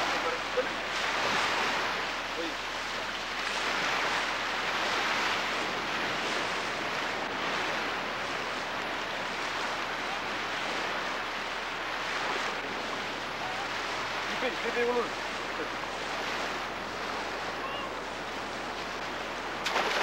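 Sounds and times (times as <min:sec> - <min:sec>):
ocean waves rushing: 0:00.0 - 0:20.0
wind: 0:00.0 - 0:20.0.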